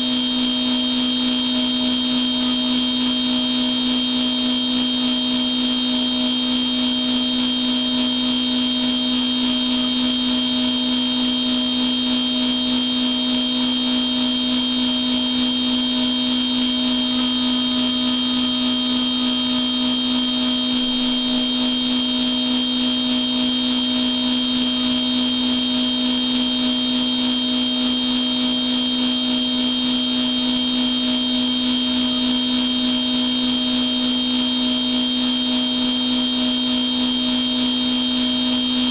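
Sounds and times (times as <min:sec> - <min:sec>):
machine tool hum and whine: 0:00.0 - 0:38.9.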